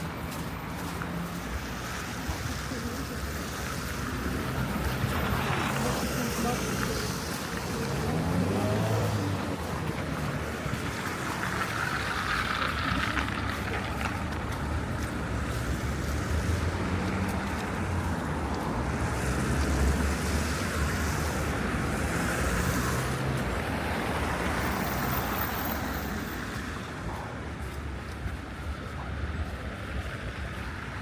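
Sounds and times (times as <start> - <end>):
car engines and tyre noise: 0.0 - 31.0
vehicle passing close: 0.3 - 27.8.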